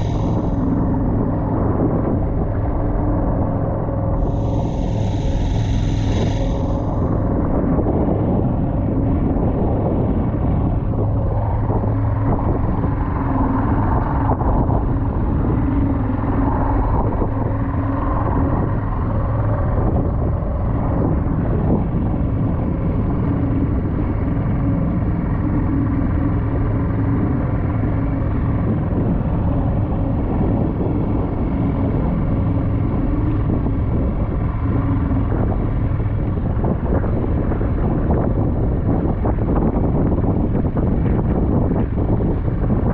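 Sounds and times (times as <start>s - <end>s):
outboard motor humming: 0.0s - 42.9s
water noise: 0.0s - 42.9s
wind noise: 0.0s - 42.9s.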